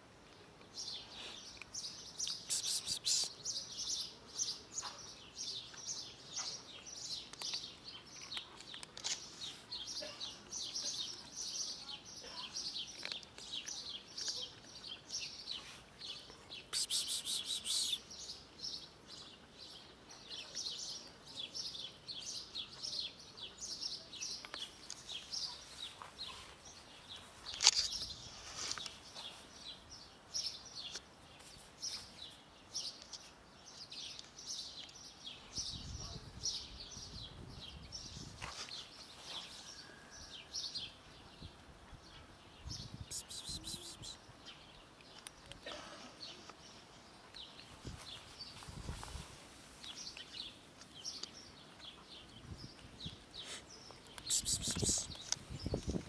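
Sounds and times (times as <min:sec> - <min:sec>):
small birds chirping: 0:00.2 - 0:56.0.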